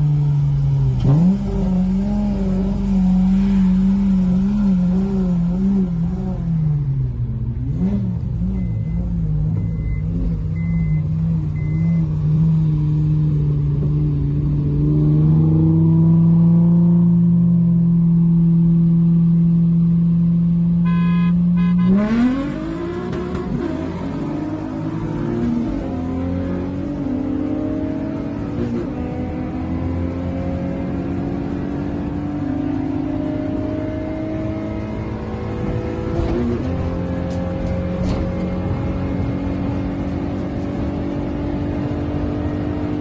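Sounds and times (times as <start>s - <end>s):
car engine at full throttle: 0.0s - 43.0s.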